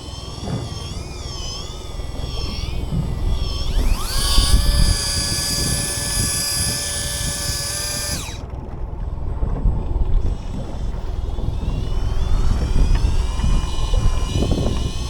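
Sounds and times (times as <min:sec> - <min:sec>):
motor whining: 0:00.0 - 0:15.0.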